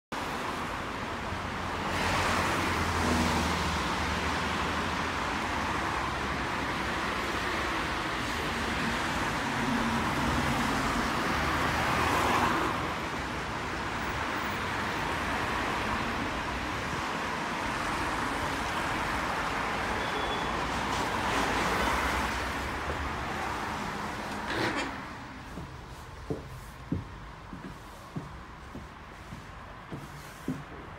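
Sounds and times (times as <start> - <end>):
traffic hissing on wet road: 0.2 - 30.9.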